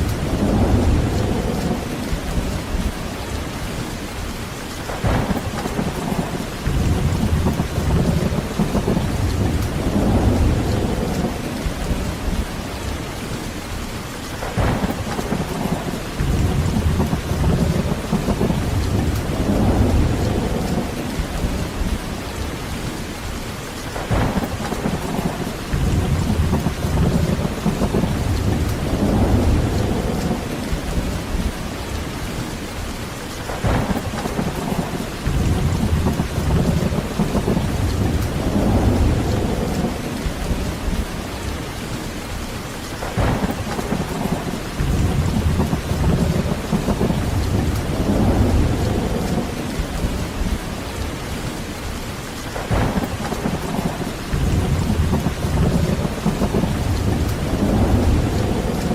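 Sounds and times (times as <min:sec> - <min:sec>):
rolling thunder: 0:00.0 - 0:13.8, 0:14.4 - 0:23.3, 0:23.9 - 0:42.4, 0:43.0 - 0:58.9
heavy rain falling: 0:00.0 - 0:58.9.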